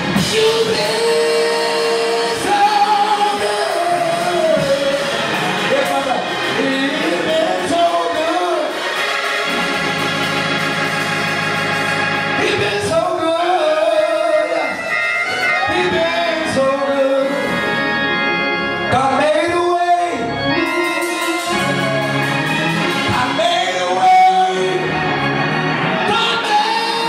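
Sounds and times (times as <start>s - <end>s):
person singing: 0.0s - 9.0s, 12.2s - 18.0s, 18.8s - 27.0s
drum kit playing: 0.0s - 16.7s, 20.5s - 27.0s
organ keyboard chords: 0.0s - 27.0s.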